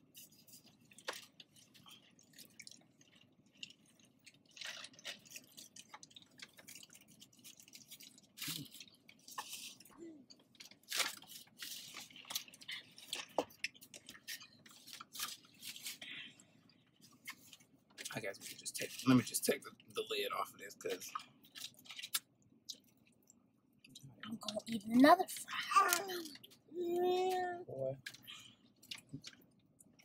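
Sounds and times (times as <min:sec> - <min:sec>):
people chewing food: 0:00.0 - 0:30.0.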